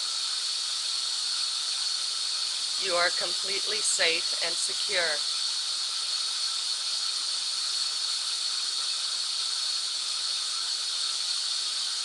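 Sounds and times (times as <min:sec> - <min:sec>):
white noise hiss: 0:00.0 - 0:12.0.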